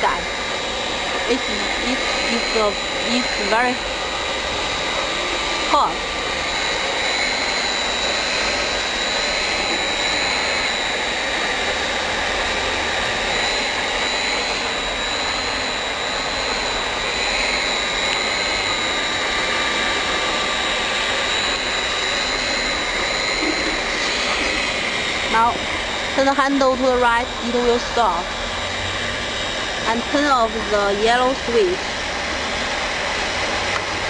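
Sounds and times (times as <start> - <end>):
heat gun blower hissing: 0.0 - 34.0.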